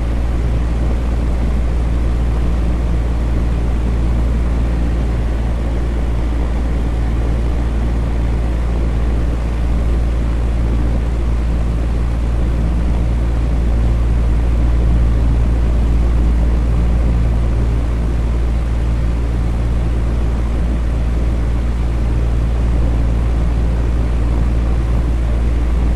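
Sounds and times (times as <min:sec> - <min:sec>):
electric fan running: 0:00.0 - 0:25.9.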